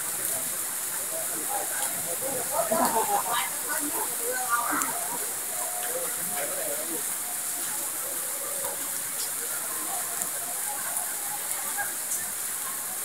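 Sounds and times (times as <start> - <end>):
faint voices calling: 0.0 - 13.0
rain splashing on concrete: 0.0 - 13.0.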